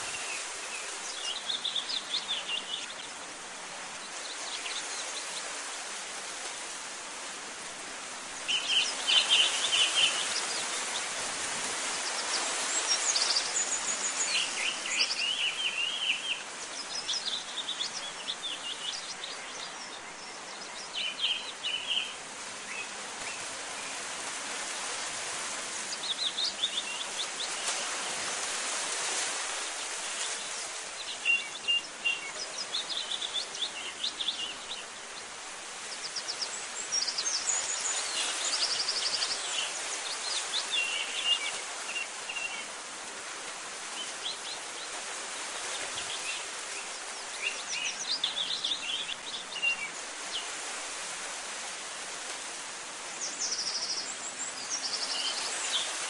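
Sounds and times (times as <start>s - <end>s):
songbirds chirping and trilling: 0.0s - 56.0s
steady outdoor hiss: 0.0s - 56.0s.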